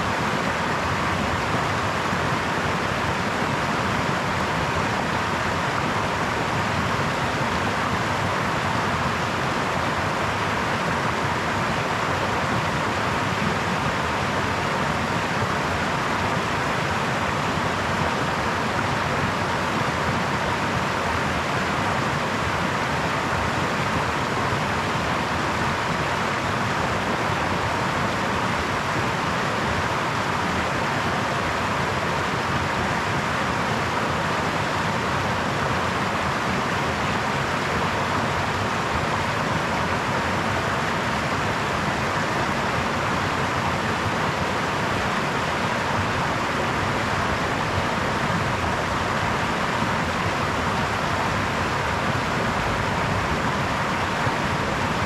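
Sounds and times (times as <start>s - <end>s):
small brook flowing: 0.0s - 55.0s.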